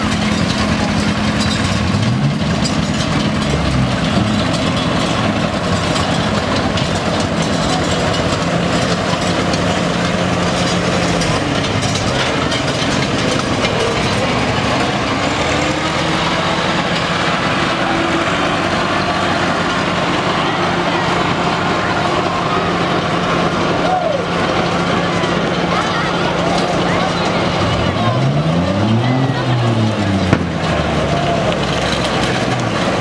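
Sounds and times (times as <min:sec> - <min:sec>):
spectators chattering: 0:00.0 - 0:33.0
tractor engines droning: 0:00.0 - 0:33.0.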